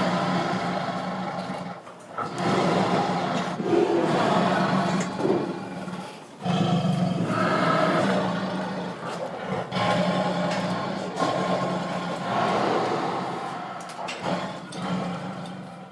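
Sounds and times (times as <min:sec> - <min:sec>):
monster roaring: 0:00.0 - 0:15.9.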